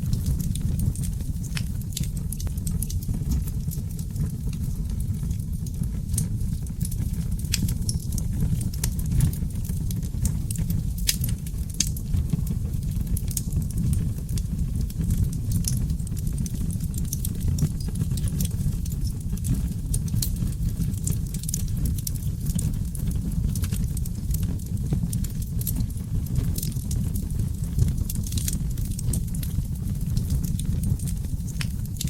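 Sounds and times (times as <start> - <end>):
low rumble of flames: 0.0 - 32.0
wood fire crackling and popping: 0.0 - 32.0.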